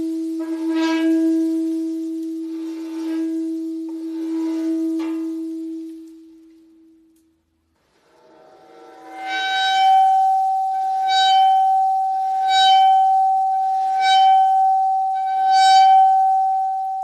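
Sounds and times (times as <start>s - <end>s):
plate ringing high tone: 0.0s - 6.5s, 8.7s - 17.0s.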